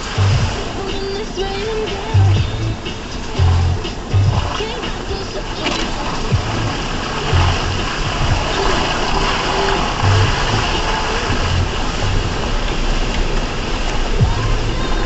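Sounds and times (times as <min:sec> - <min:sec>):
steady rushing noise: 0:00.0 - 0:15.0
truck engine pulsing: 0:00.0 - 0:15.0.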